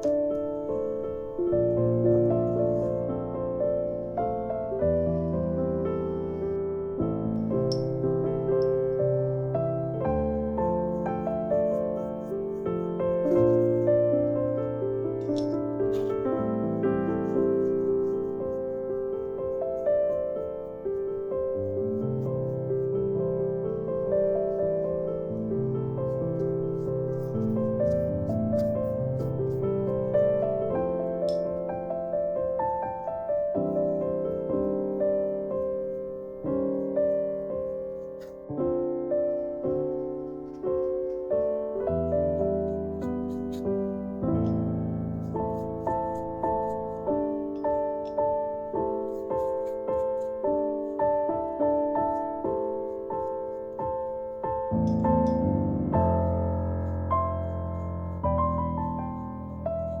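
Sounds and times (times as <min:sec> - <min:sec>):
gentle piano music: 0:00.0 - 1:00.0.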